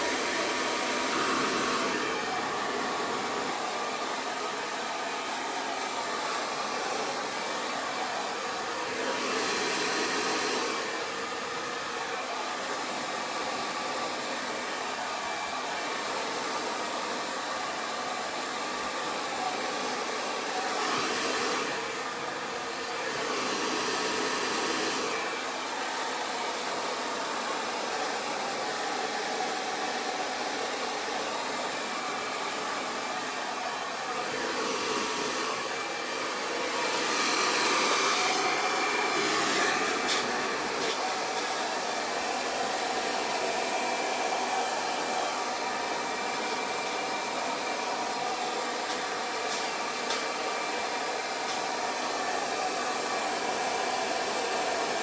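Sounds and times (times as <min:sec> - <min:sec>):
hair dryer blowing air: 0:00.0 - 0:55.0.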